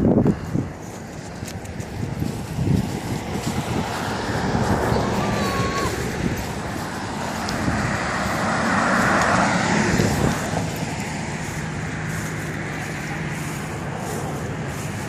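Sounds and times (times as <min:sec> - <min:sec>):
car passing: 0:00.0 - 0:15.0
low engine hum: 0:00.0 - 0:15.0.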